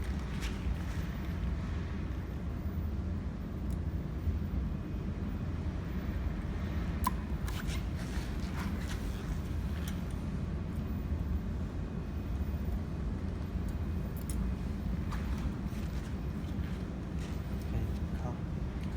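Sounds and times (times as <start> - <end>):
low electrical hum: 0.0 - 18.9.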